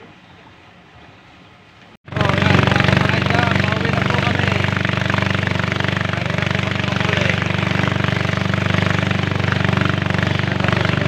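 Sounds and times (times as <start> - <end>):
small boat engine running: 2.1 - 11.0.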